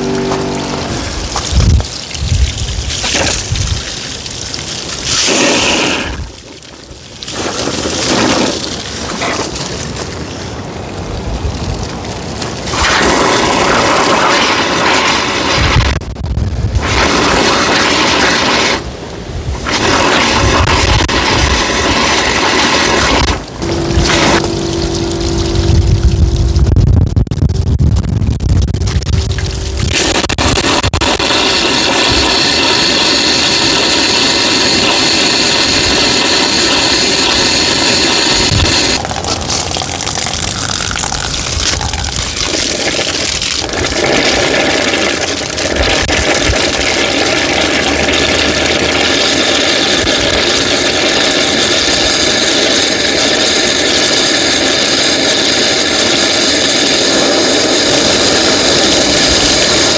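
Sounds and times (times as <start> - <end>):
hose water spraying and splashing: 0.0 - 10.6, 11.2 - 16.0, 16.7 - 26.7, 28.9 - 59.9.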